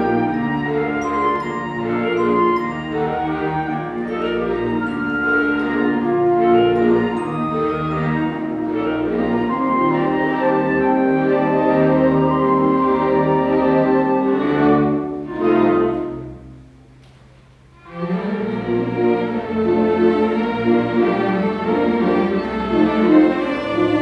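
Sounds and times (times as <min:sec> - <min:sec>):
orchestra playing a waltz: 0:00.0 - 0:24.0.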